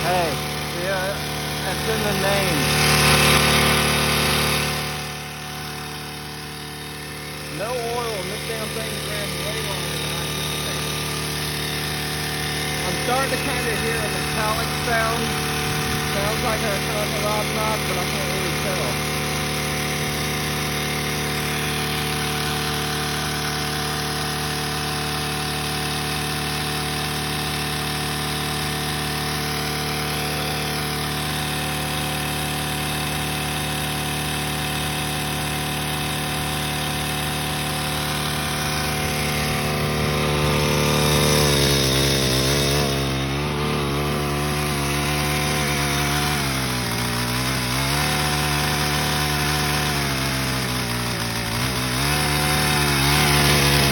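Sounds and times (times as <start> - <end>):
small engine running unevenly: 0.0 - 53.9.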